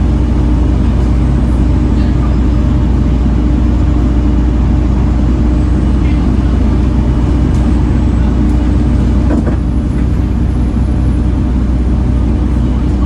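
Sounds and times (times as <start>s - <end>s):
diesel bus engine running: 0.0s - 13.0s.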